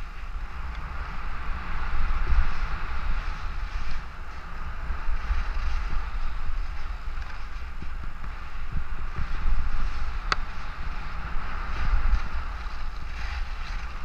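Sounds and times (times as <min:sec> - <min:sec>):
skis sliding on snow: 0:00.0 - 0:14.0
wind buffeting microphone: 0:00.0 - 0:14.0.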